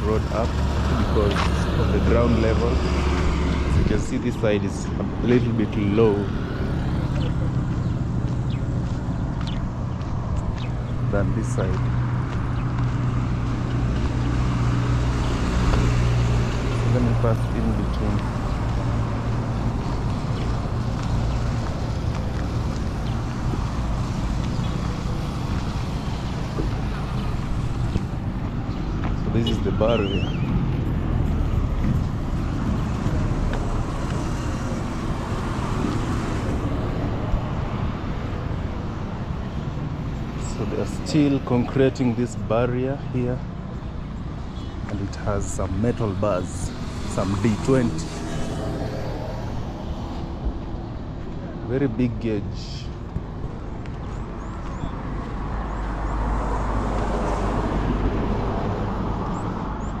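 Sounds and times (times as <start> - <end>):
vehicle passing close by: 0.0 - 43.4, 44.1 - 52.3, 53.0 - 60.0
road traffic rumble: 0.0 - 60.0.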